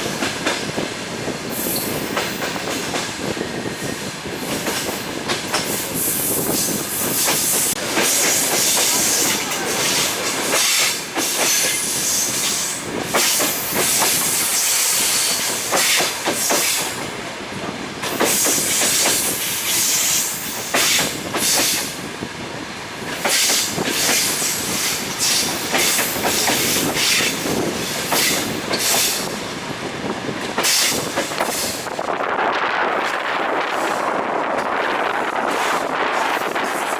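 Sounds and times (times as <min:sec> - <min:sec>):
railway carriage rumbling: 0:00.0 - 0:36.9.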